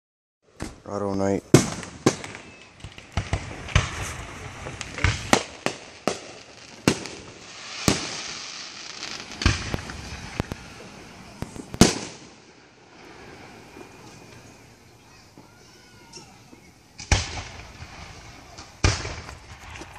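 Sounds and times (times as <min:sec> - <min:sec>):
fireworks bangs and pops: 0:00.5 - 0:19.9
fireworks crackling hiss: 0:00.5 - 0:19.9.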